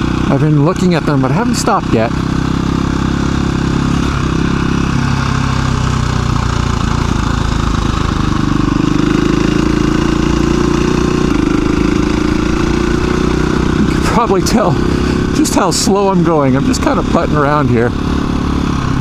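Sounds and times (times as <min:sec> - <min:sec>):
motorcycle engine puttering: 0:00.0 - 0:19.0.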